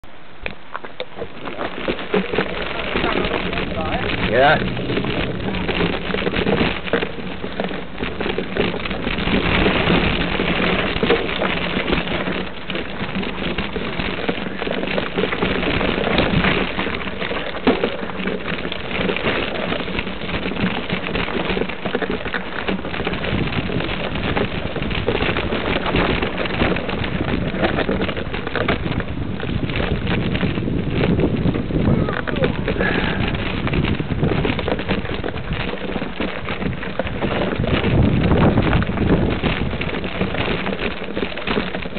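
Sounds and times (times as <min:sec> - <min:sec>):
bike tyres rolling over gravel: 0:00.0 - 0:41.9.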